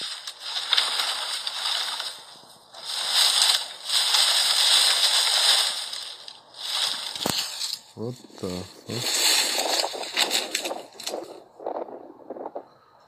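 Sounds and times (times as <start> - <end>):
dry branches rustling and crackling: 0.0 - 12.8.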